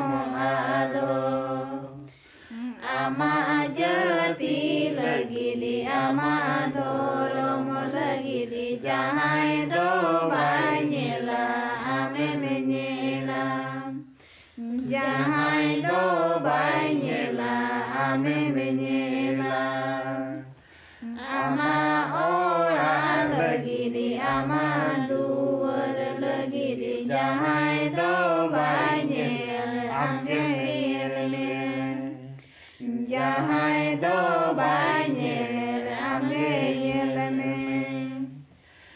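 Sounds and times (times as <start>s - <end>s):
group singing in unison: 0.0s - 38.9s.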